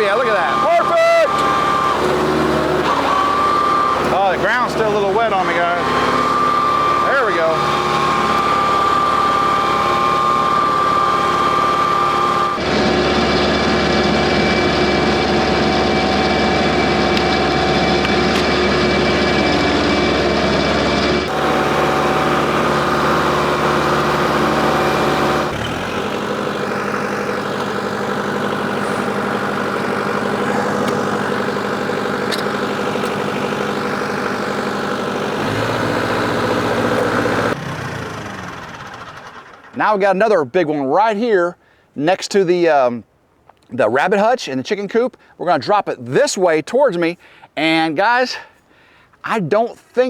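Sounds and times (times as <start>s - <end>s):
tractor diesel engine running: 0.0s - 40.1s.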